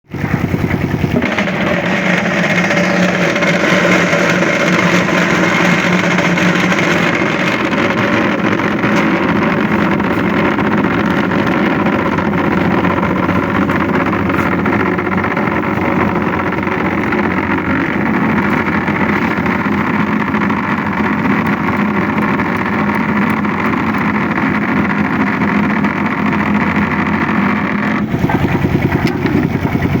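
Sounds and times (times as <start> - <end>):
motor droning: 0.1 - 30.0.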